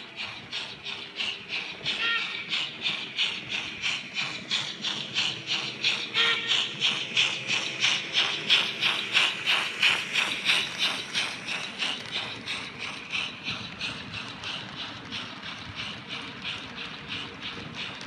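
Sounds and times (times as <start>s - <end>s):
model steam locomotive chuffing: 0.0s - 18.0s.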